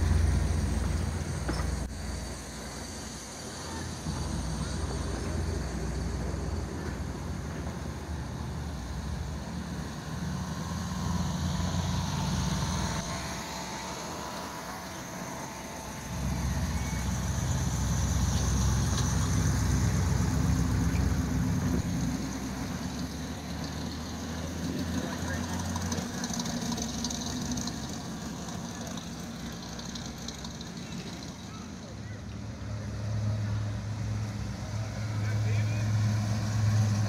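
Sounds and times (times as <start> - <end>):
cars and trucks driving past: 0.0 - 37.0.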